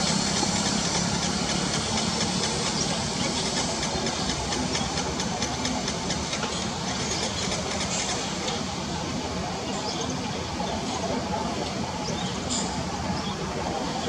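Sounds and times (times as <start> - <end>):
low hum of distant traffic: 0.0 - 14.0.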